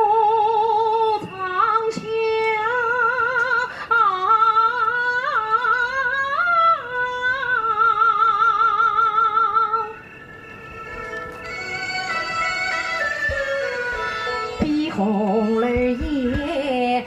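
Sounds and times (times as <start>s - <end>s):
opera singer with vibrato: 0.0s - 10.1s, 11.5s - 17.0s.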